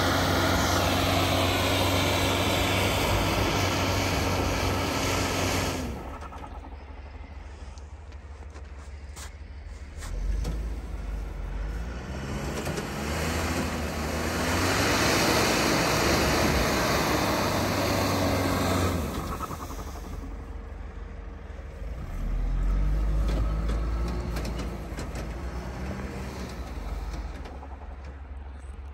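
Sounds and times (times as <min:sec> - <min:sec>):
pickup engine revving: 0:00.0 - 0:07.8, 0:09.9 - 0:28.9.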